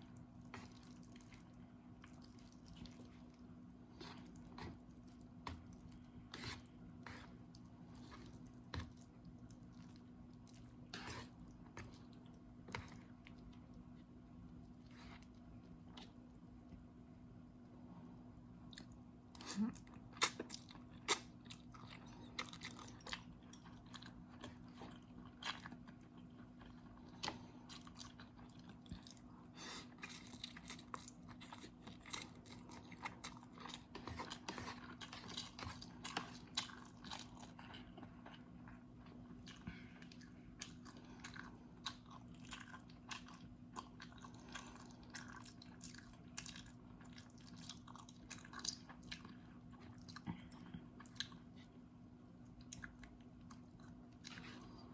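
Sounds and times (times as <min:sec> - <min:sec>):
person chewing noodles: 0:00.0 - 0:16.3, 0:18.6 - 0:54.9
faint low hum: 0:00.0 - 0:54.9.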